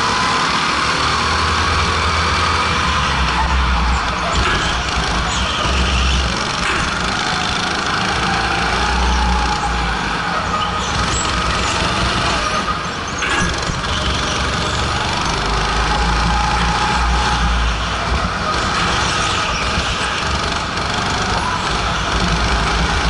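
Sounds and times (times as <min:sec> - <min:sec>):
go-kart engine running hard: 0:00.0 - 0:23.0.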